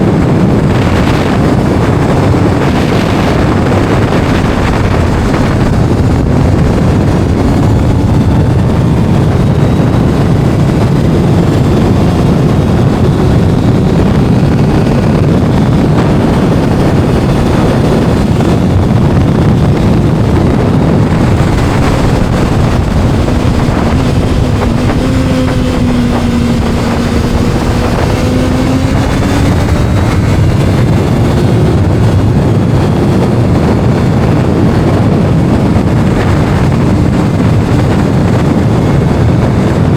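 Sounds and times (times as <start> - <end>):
motorcycle engine running at speed: 0.0 - 39.9
wind buffeting microphone: 0.0 - 39.9.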